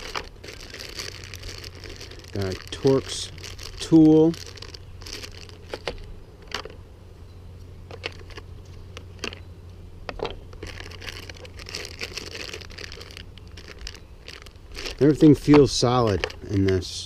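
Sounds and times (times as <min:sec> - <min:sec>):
plastic packaging crinkling: 0:00.0 - 0:06.8, 0:07.9 - 0:09.4, 0:10.2 - 0:17.0.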